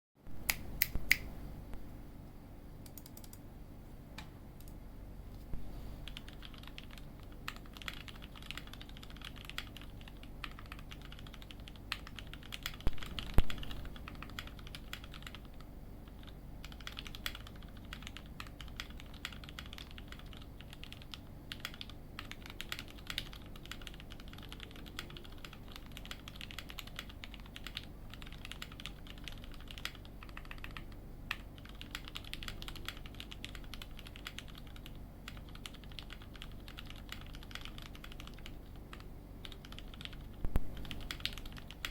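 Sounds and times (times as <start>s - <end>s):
mechanical keyboard typing: 2.9s - 3.4s, 6.1s - 41.9s.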